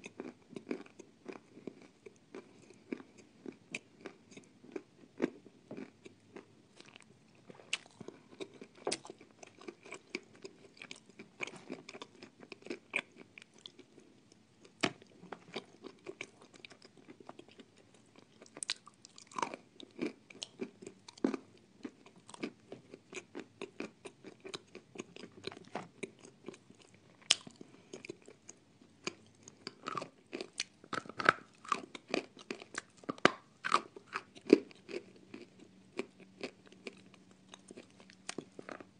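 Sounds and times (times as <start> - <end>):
person crunching and chewing: 0.0 - 38.9.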